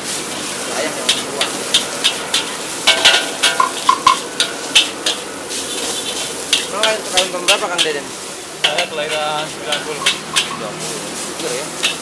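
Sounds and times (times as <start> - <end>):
frying sizzle: 0.0 - 12.0
metal spatula scraping wok: 0.0 - 12.0.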